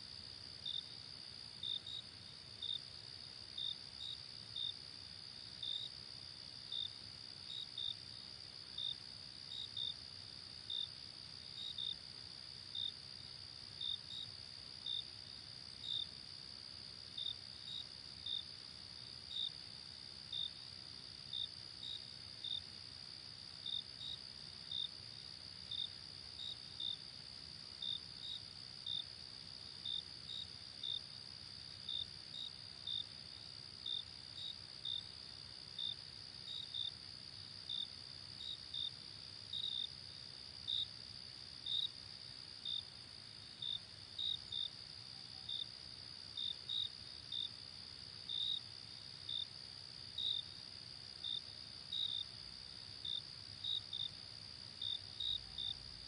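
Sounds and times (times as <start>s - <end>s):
cricket chirps: 0.0s - 56.0s.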